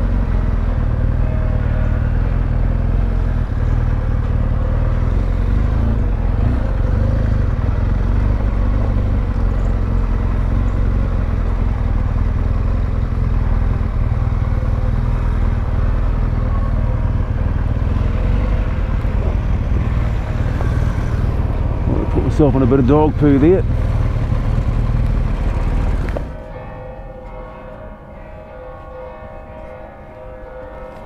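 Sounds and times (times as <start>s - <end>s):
motorcycle engine running: 0.0s - 26.4s
road noise: 0.0s - 31.0s.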